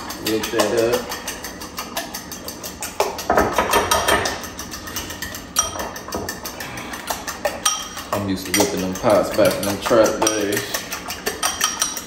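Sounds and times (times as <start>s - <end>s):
utensil clicking against bowl: 0.0s - 12.0s.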